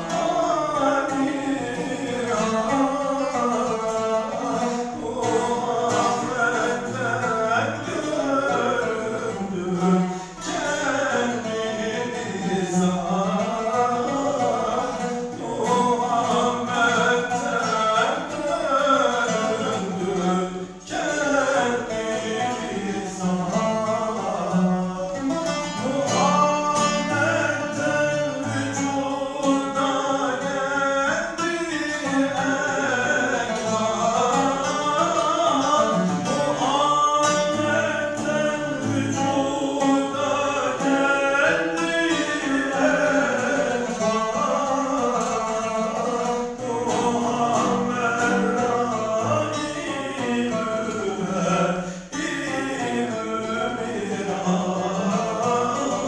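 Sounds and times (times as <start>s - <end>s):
man singing a hymn: 0.0s - 56.0s
plucked oud: 0.0s - 56.0s.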